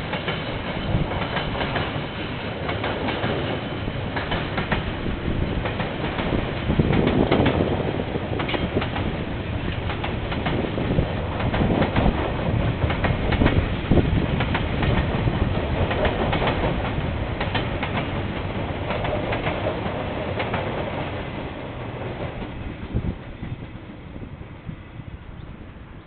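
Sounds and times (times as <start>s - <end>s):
train wheels clattering: 0.0s - 23.8s
train rumble: 0.0s - 26.0s.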